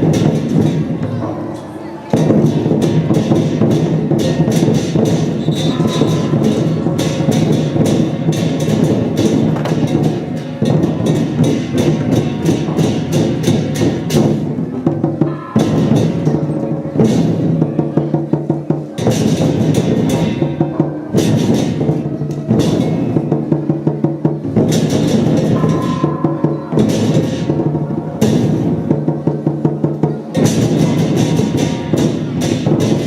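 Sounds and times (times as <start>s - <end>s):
big drum beating: 0.0s - 33.0s
cymbals crashing: 0.0s - 33.0s
gongs: 0.0s - 33.0s.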